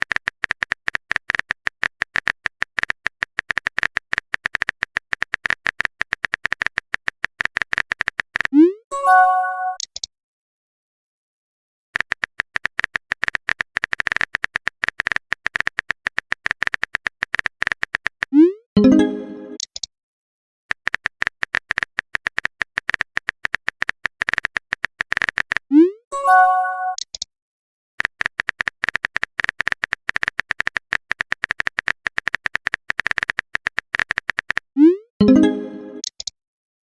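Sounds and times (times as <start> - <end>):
keyboard typing clicks: 0.0 - 8.6, 9.6 - 10.1, 12.0 - 19.9, 20.7 - 25.7, 28.0 - 36.4.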